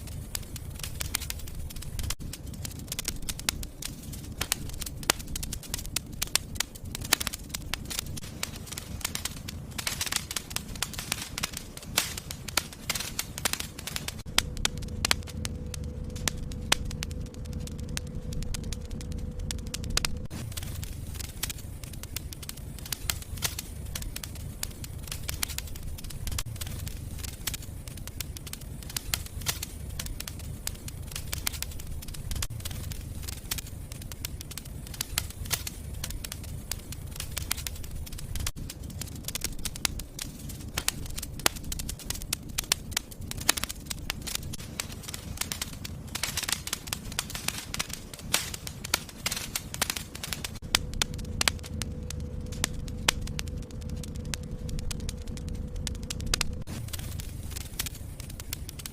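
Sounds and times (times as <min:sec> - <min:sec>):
fire crackling and popping: 0:00.0 - 0:58.9
low steady rumble: 0:00.0 - 0:58.9.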